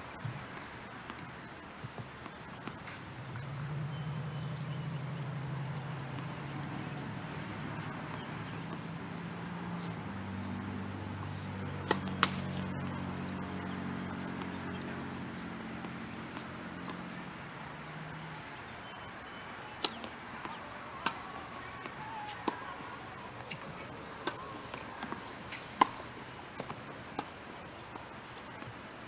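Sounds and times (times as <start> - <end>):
steady low motor hum: 3.0 - 29.0.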